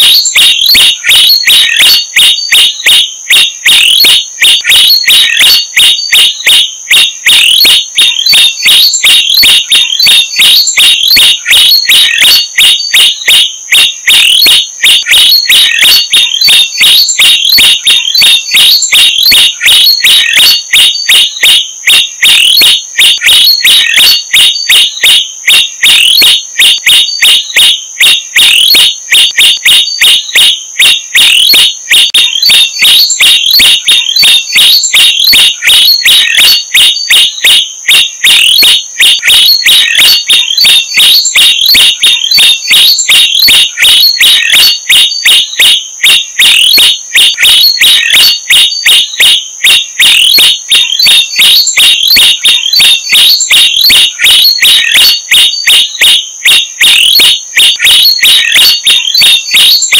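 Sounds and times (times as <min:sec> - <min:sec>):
steady high-pitched tone: 0:00.0 - 0:59.9.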